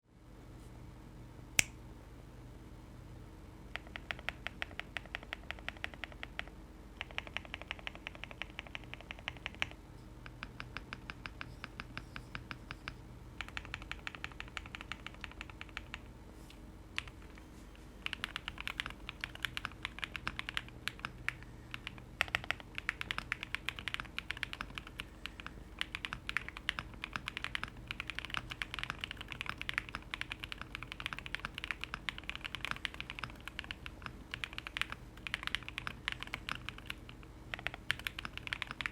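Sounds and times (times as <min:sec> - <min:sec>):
typing on a keyboard: 0:03.7 - 0:16.0, 0:17.0 - 0:17.4, 0:18.0 - 0:38.9.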